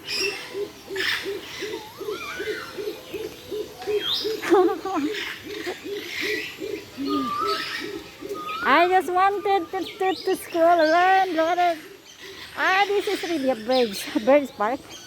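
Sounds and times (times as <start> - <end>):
bird giving low hoots: 0.0 - 14.2
birds chirping and whistling: 0.0 - 15.0.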